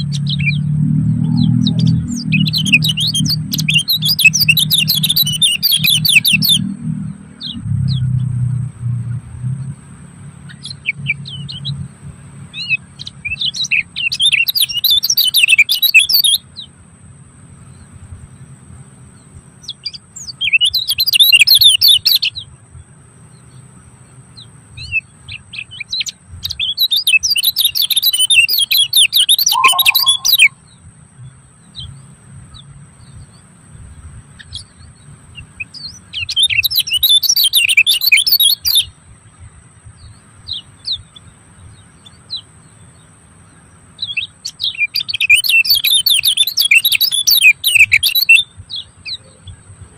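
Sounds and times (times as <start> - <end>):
songbird twittering chirps: 0.0 - 49.9.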